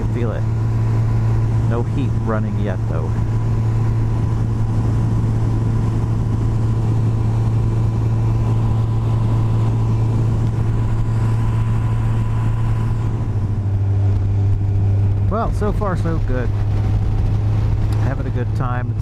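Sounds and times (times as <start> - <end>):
motorcycle engine droning: 0.0 - 19.0
wind and road noise: 0.0 - 19.0.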